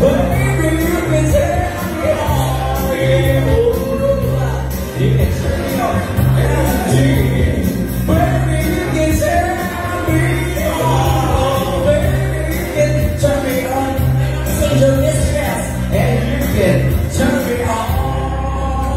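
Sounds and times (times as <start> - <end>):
backing music with heavy bass beat: 0.0 - 18.9.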